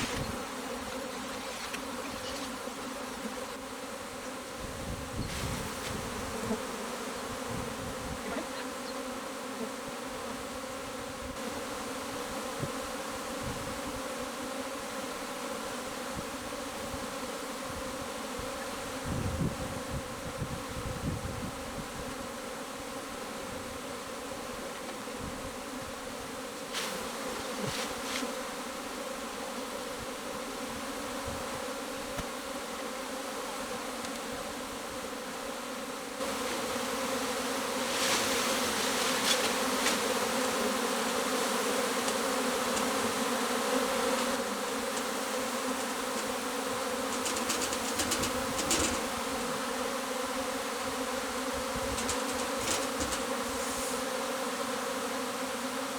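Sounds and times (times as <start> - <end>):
bee swarm buzzing: 0.0 - 55.9.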